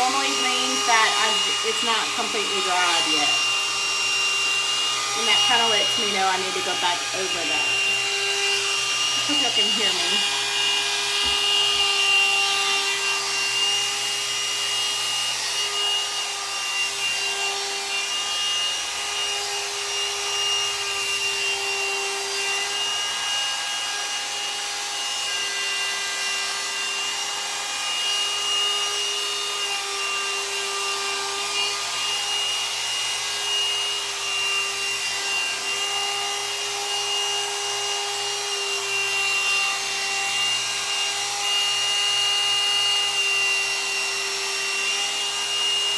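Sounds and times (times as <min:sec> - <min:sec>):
hair dryer brush motor whine: 0:00.0 - 0:45.9.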